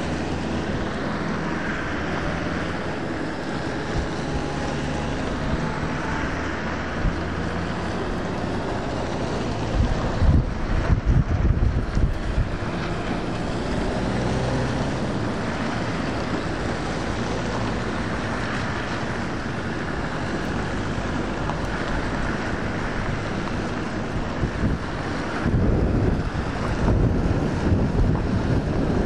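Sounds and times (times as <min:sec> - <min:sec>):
diesel engines running: 0:00.0 - 0:29.0
tyres on gravel: 0:00.0 - 0:29.0
wind on microphone: 0:00.0 - 0:29.0.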